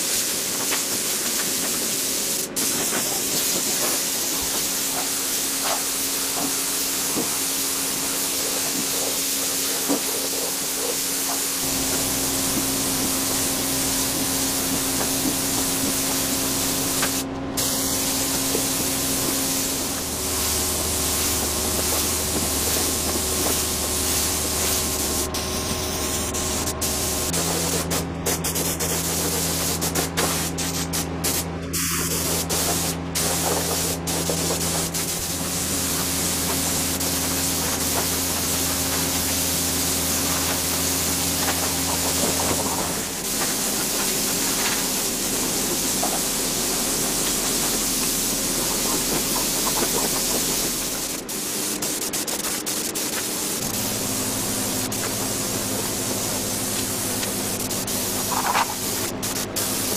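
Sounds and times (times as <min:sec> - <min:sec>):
spray gun hissing: 0:00.0 - 0:59.9.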